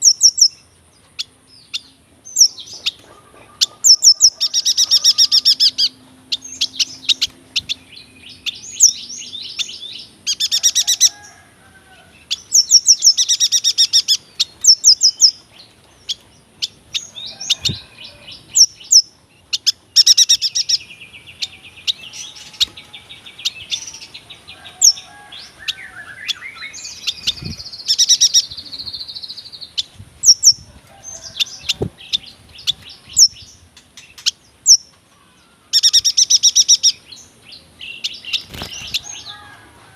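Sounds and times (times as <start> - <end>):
bird chirping and trilling: 0.0 - 11.4, 12.1 - 39.5.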